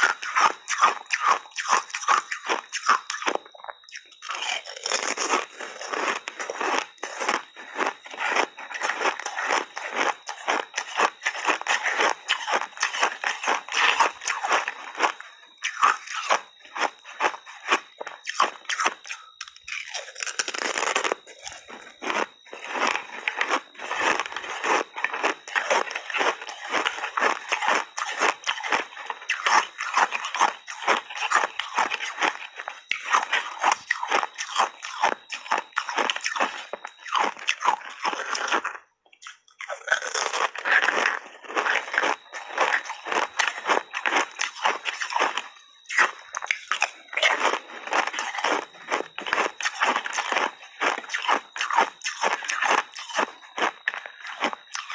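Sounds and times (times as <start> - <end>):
ice chips being chewed: 0.0 - 54.9.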